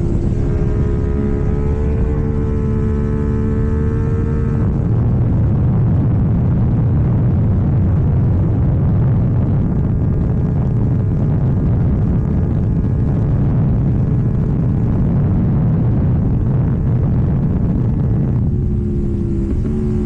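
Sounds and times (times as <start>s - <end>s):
motorcycle engine low rumble: 0.0s - 20.0s.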